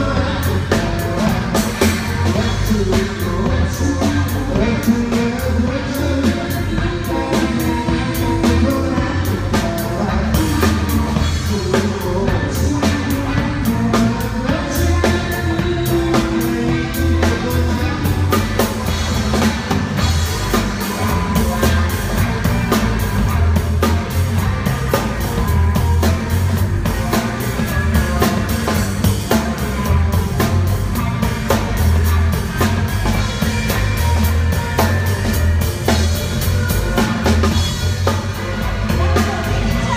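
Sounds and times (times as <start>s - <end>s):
bass guitar: 0.0s - 39.9s
drum kit: 0.0s - 39.9s
electric guitars: 0.0s - 39.9s
person singing: 0.0s - 39.9s.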